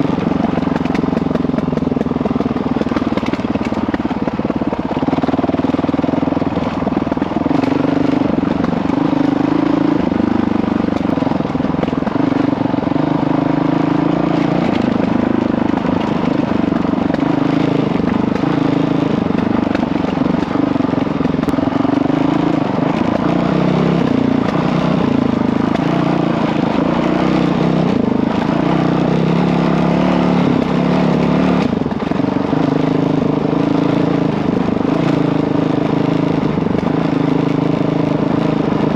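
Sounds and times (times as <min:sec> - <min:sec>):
dirt bike engine revving: 0:00.0 - 0:38.9
wind and trail noise: 0:00.0 - 0:38.9.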